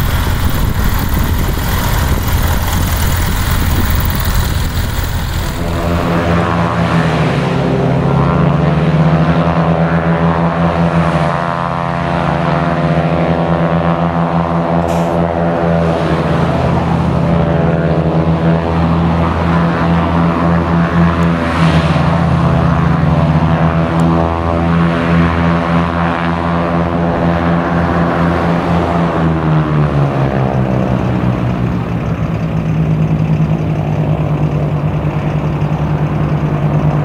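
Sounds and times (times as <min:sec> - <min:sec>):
light aircraft engine and propeller: 0:00.0 - 0:37.0.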